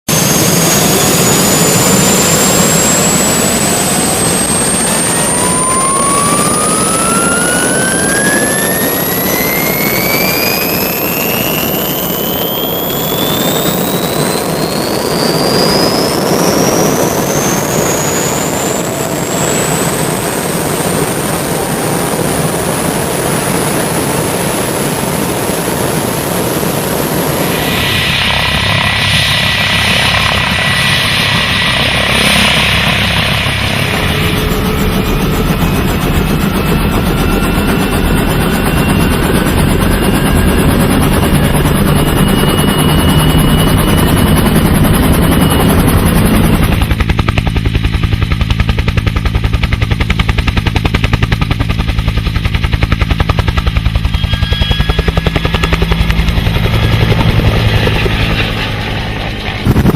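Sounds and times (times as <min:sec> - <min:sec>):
aircraft turbine engine whine: 0:00.1 - 0:59.9.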